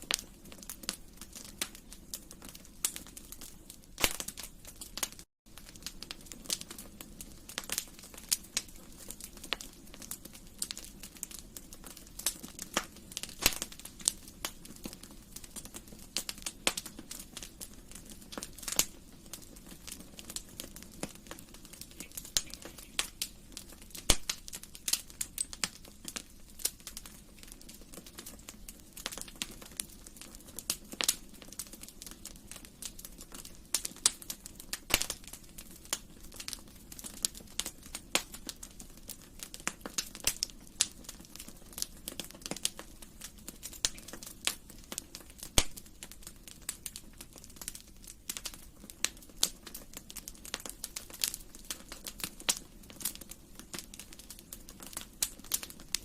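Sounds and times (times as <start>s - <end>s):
fire pops and snaps: 0.0s - 56.0s
low hiss of burning: 0.0s - 56.0s
wood fire crackling: 0.0s - 56.0s.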